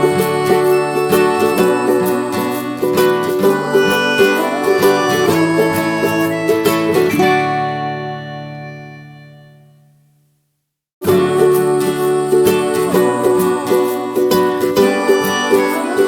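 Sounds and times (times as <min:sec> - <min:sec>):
plucked string music: 0:00.0 - 0:10.2, 0:11.0 - 0:16.0.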